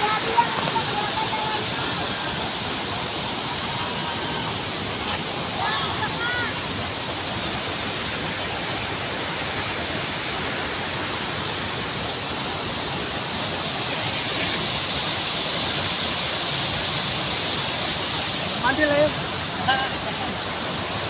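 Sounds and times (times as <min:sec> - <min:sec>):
roar of rushing stream water: 0:00.0 - 0:21.0.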